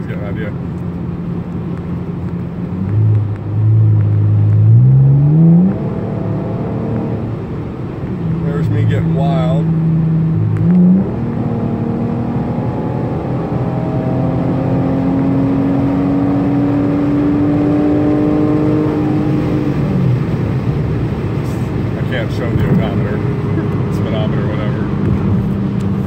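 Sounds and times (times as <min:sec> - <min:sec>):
car exhaust under acceleration: 0:00.0 - 0:26.0
road noise: 0:00.0 - 0:26.0.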